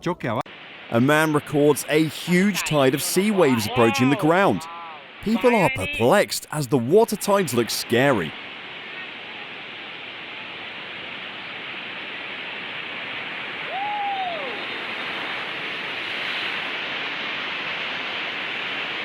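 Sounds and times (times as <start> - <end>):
sea waves surging: 0.5 - 19.0.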